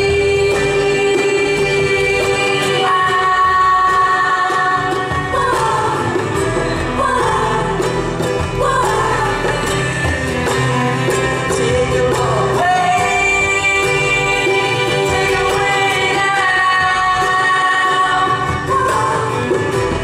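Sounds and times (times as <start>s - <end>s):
live band music: 0.0s - 20.0s
person singing: 0.0s - 20.0s.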